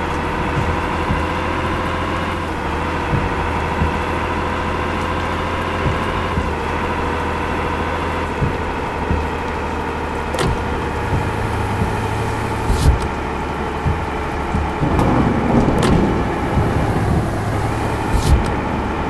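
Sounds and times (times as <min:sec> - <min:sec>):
road noise: 0:00.0 - 0:19.0
sharp knocks and rattles: 0:00.0 - 0:19.0
truck engine droning: 0:00.0 - 0:19.0.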